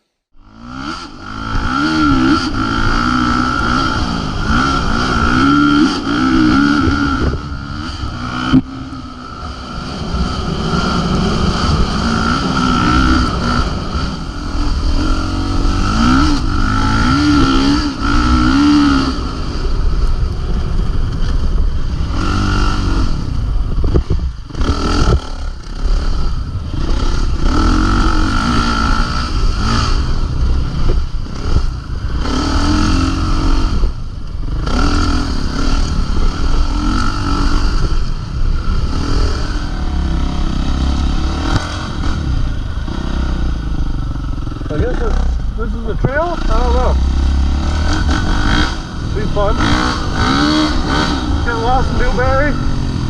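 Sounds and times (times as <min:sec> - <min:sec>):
dirt bike engine revving: 0:00.3 - 0:53.0
low rumble: 0:00.4 - 0:53.0.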